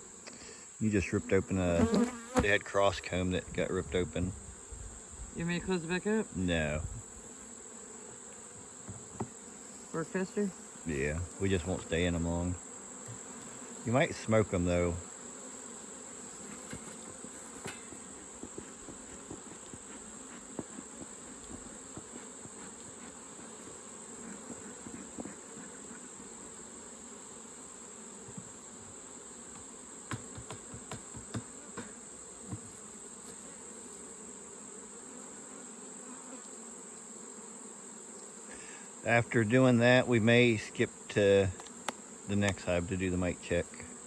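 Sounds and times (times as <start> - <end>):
honeybees buzzing: 0.0 - 44.0.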